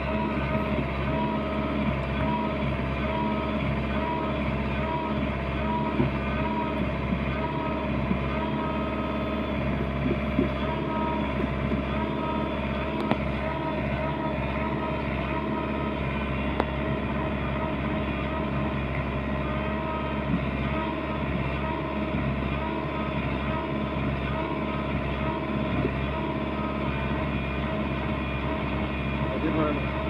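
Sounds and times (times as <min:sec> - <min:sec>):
heavy machinery diesel engine: 0:00.0 - 0:30.0.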